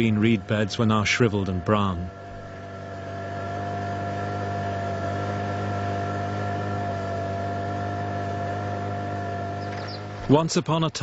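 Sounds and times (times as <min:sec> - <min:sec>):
motorboat engine humming: 0:00.0 - 0:11.0.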